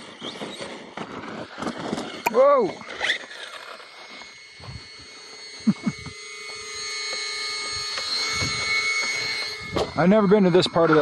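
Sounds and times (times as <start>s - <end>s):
electric toy truck motor whining: 0.0s - 11.0s.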